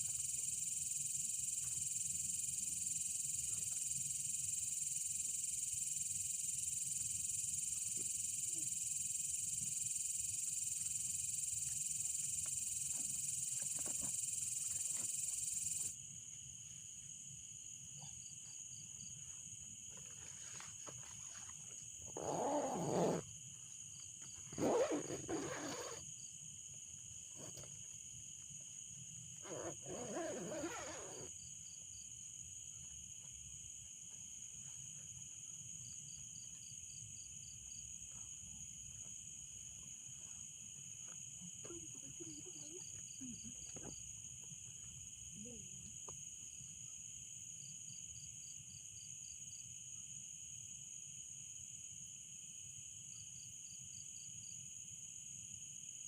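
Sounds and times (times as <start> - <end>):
insect chorus: 0.0 - 56.0
rapid insect chirps: 0.0 - 56.0.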